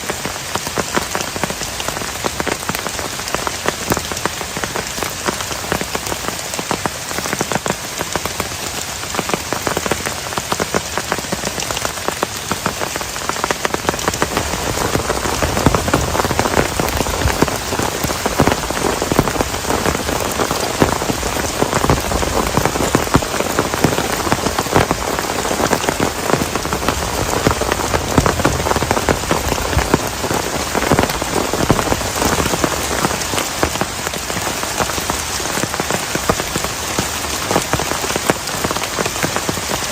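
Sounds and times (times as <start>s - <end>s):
rain drumming on plastic tarp: 0.0s - 39.9s.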